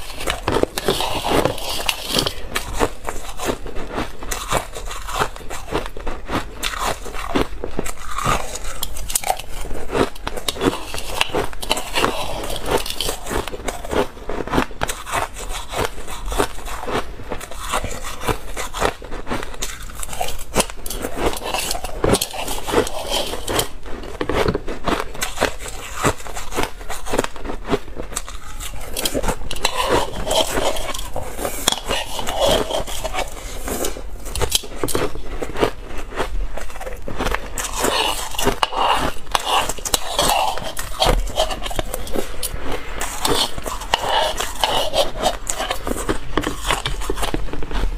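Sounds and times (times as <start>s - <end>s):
crushed ice being chewed: 0.0s - 47.9s.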